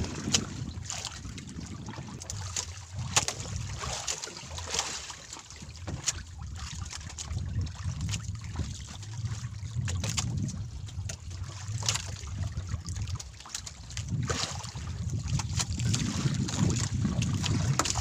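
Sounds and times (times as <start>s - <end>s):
wind buffeting microphone: 0.0s - 4.6s, 5.6s - 18.0s
water lapping against boat: 0.0s - 18.0s.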